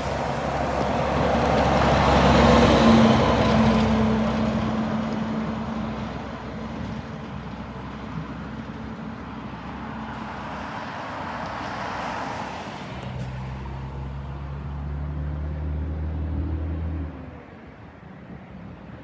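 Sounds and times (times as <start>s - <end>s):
truck driving past: 0.0s - 17.8s.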